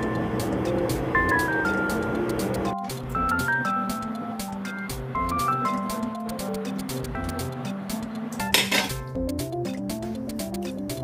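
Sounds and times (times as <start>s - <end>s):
light melody over steady beat: 0.0s - 11.0s.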